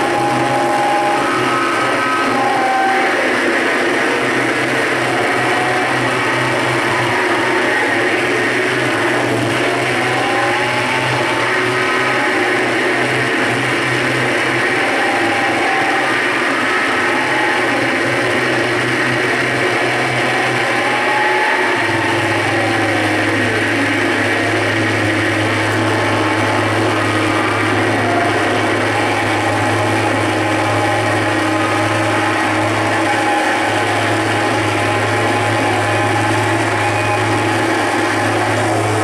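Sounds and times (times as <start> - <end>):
low hum: 0.0 - 39.0
wall of grinding noise: 0.0 - 39.0.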